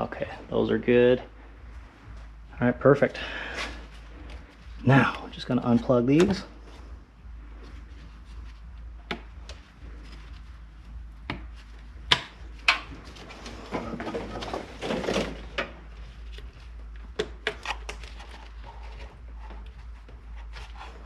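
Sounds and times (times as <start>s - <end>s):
rustling and scraping: 1.6s - 21.0s.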